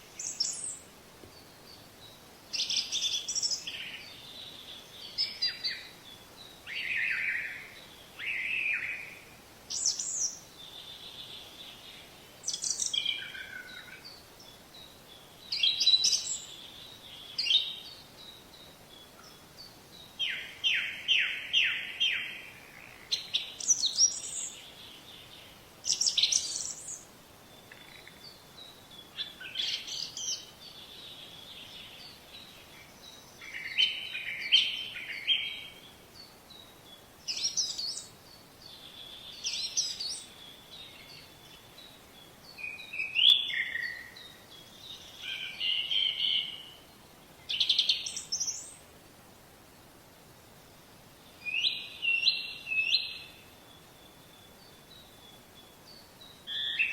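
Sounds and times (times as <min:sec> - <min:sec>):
faint steady hiss: 0:00.0 - 0:56.9
songbirds chirping and trilling: 0:00.0 - 0:56.9.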